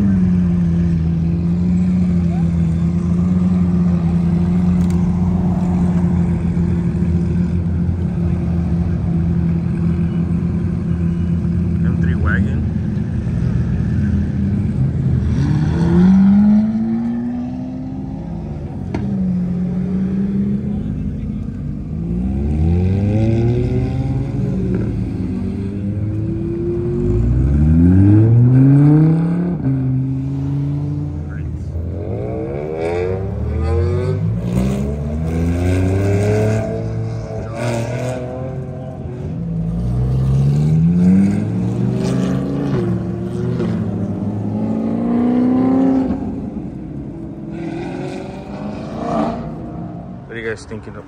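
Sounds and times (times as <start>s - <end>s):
cars driving past: 0.0s - 51.0s.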